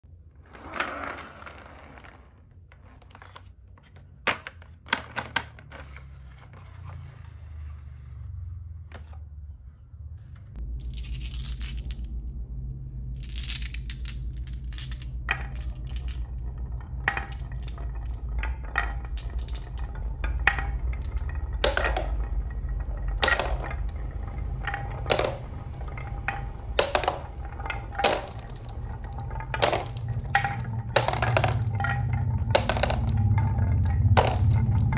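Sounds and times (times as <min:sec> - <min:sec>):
low rolling rumble: 0:00.1 - 0:03.6, 0:05.8 - 0:34.9
marbles clacking on wood: 0:00.4 - 0:06.8, 0:10.6 - 0:34.9.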